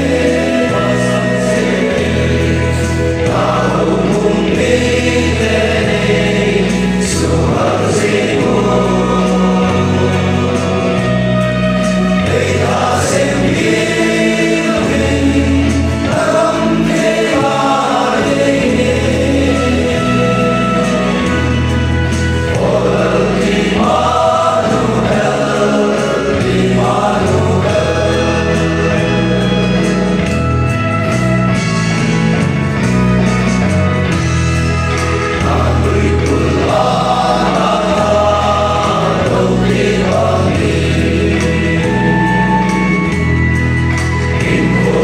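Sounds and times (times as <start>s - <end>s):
male choir singing in harmony: 0.0s - 45.0s.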